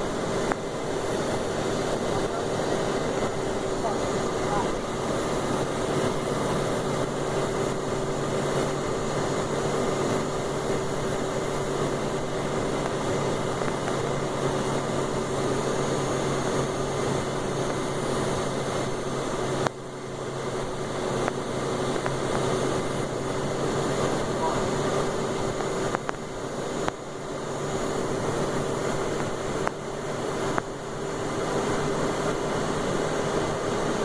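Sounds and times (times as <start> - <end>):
aircraft cabin noise: 0.0 - 34.0.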